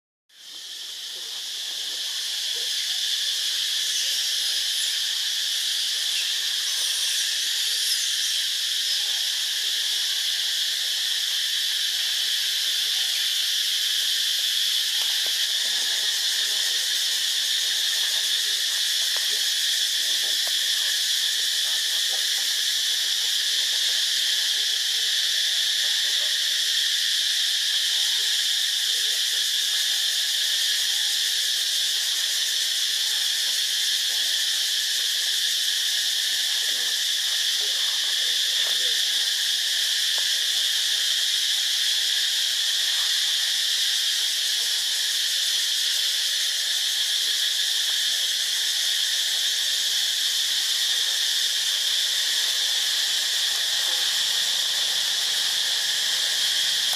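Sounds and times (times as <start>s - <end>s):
high-pitched insect chorus: 0.3s - 56.9s.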